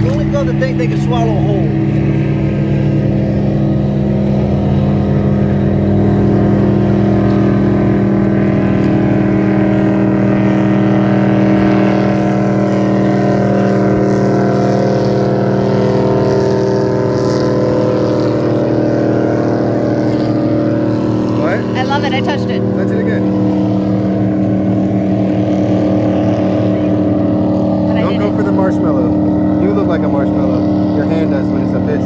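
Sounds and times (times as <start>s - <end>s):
airboat engine idling: 0.0s - 32.0s.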